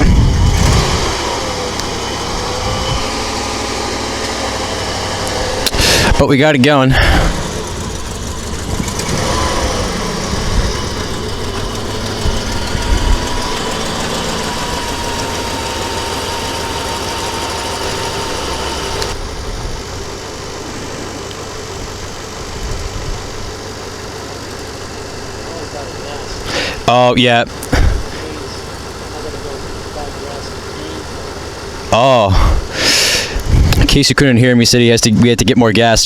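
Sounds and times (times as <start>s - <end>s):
truck engine idling: 0.0s - 35.9s.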